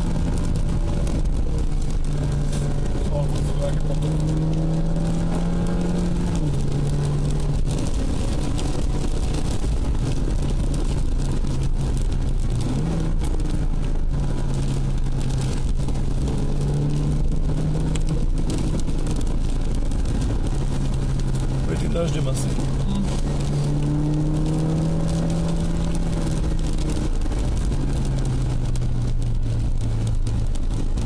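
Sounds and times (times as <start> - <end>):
car engine hum: 0.0 - 31.0
tyre and rain noise: 0.0 - 31.0.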